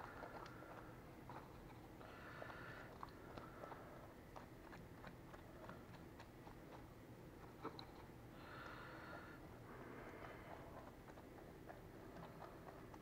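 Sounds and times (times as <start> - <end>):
pastry brush dabbing ticks: 0.0 - 13.0.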